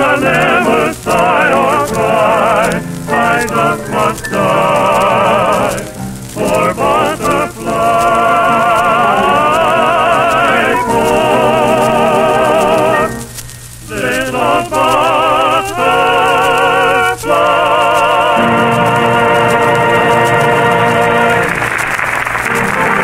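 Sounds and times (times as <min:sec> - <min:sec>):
person singing with wide vibrato: 0:00.0 - 0:21.7.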